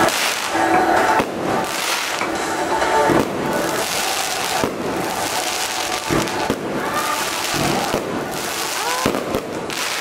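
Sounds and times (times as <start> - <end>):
fireworks crackling and popping: 0.0 - 10.0
fireworks sharp bangs: 0.0 - 10.0.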